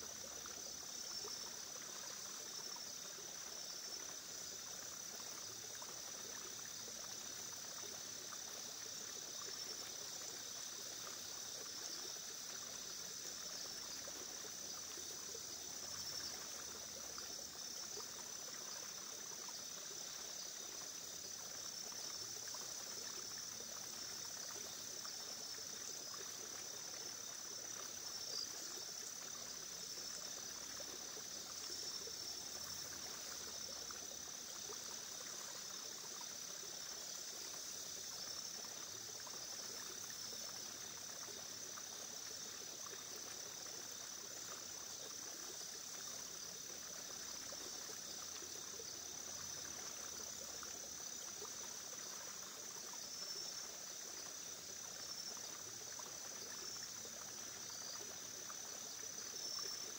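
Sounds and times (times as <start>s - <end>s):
crickets chirring: 0.0s - 59.9s
water trickling: 0.0s - 59.9s.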